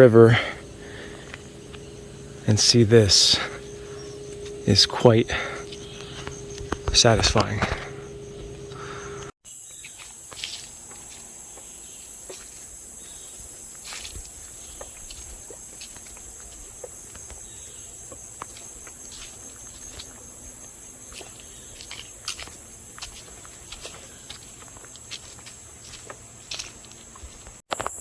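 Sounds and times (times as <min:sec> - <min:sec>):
footsteps on leafy soil path: 0:00.0 - 0:28.0
insects buzzing: 0:00.0 - 0:28.0.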